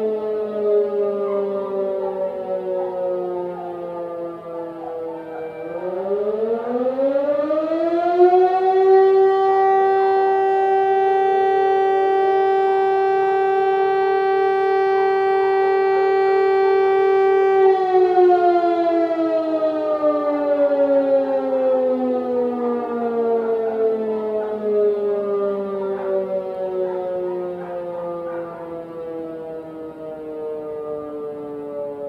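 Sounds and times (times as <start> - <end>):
warning siren wailing: 0.0 - 32.0.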